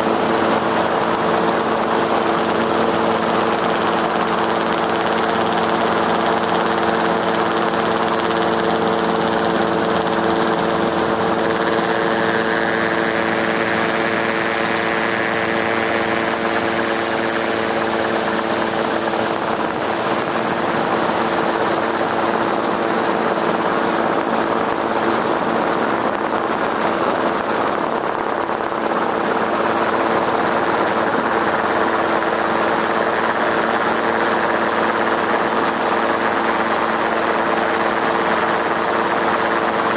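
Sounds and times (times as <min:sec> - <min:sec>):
aircraft rotor and engine hum: 0:00.0 - 0:39.9.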